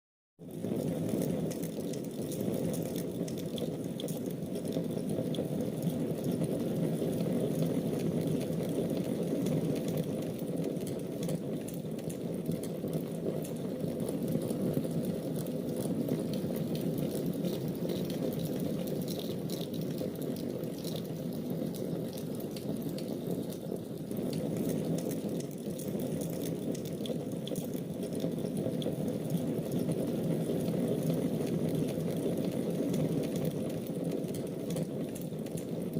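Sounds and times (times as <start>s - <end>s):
fire crackles: 0.4s - 35.9s.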